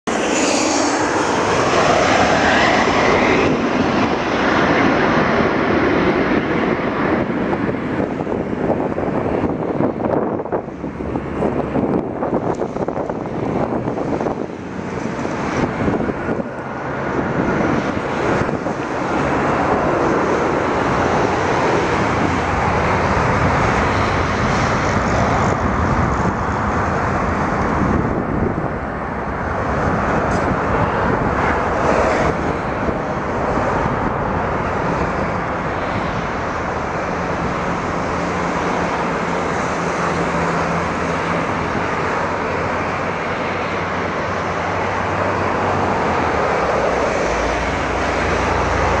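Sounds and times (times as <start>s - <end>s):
jet engines roaring: 0.0s - 49.0s.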